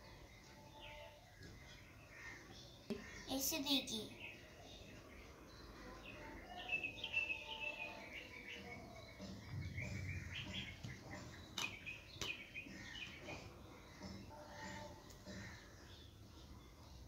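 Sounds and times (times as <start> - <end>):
small birds twittering: 0.0 - 17.0.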